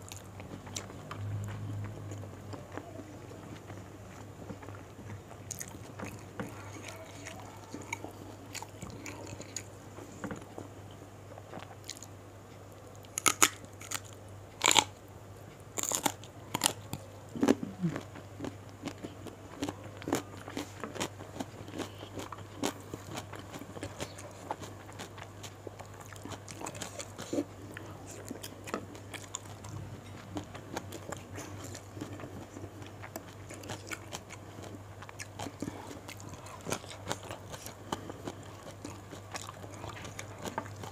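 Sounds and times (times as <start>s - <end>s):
chewing and crunching food: 0.0s - 40.9s
steady low hum: 0.0s - 40.9s.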